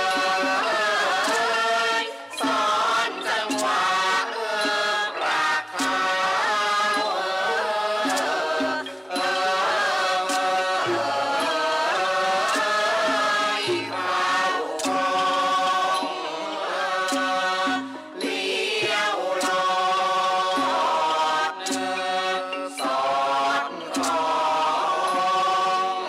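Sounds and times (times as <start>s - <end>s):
drum strokes: 0.0s - 26.0s.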